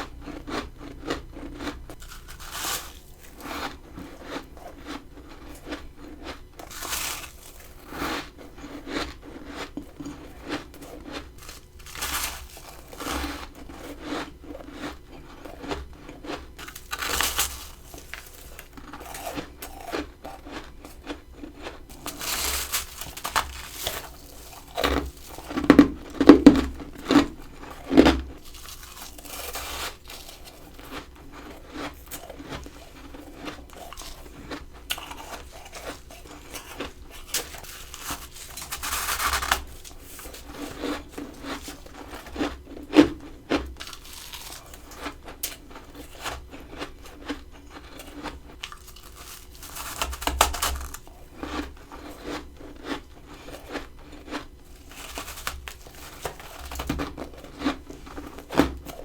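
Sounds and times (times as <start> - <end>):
crunching frost with teeth: 0.0 - 59.0.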